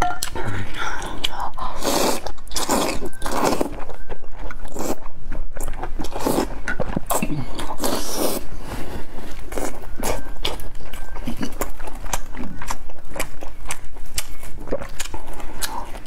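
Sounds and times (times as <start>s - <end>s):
person chewing: 0.0s - 16.0s.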